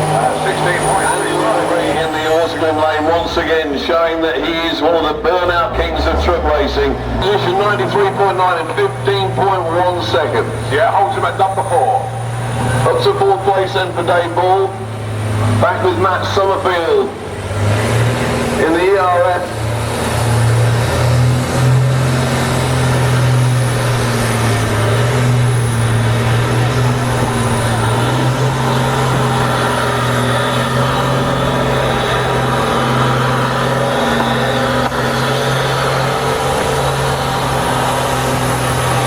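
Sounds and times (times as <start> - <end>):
spinning tyres hissing: 0.0 - 39.0
truck diesel engine revving: 0.0 - 39.0.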